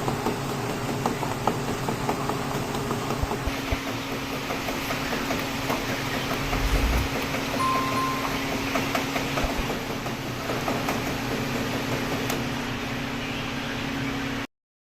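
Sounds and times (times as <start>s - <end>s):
machinery hum: 0.3s - 14.5s.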